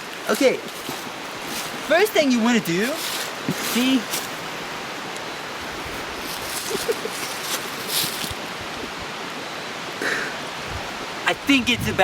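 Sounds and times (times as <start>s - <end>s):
rustling in leaves: 0.0s - 11.4s.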